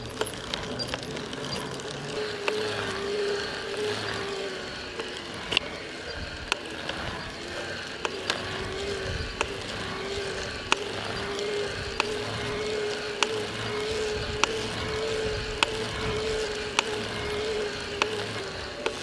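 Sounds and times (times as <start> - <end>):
electric bike motor humming: 0.0 - 19.0
sharp crack from crank: 0.0 - 19.0.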